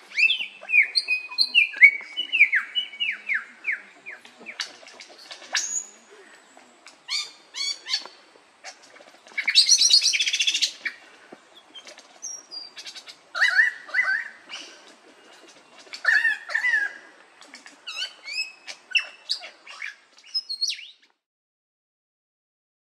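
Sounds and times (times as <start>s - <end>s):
lyrebird singing: 0.0s - 21.1s.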